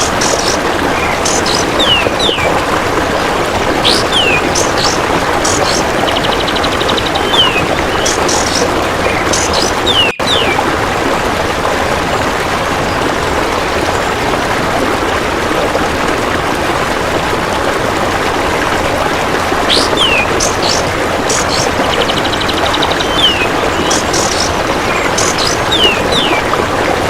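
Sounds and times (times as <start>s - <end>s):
running water: 0.0s - 27.0s.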